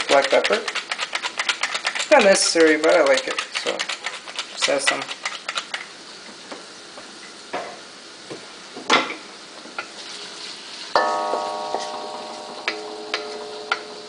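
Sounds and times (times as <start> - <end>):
oil sizzling in wok: 0.0 - 14.0.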